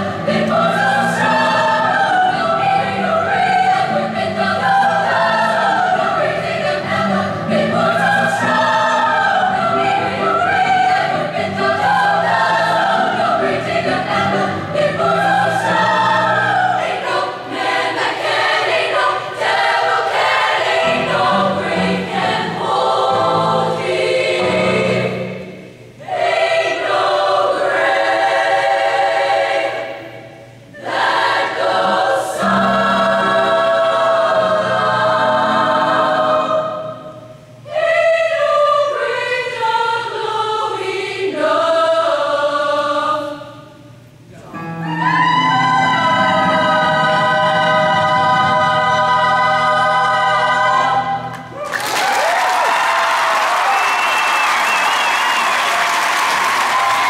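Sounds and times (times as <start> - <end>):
women's choir singing gospel: 0.0 - 43.9, 44.6 - 57.0.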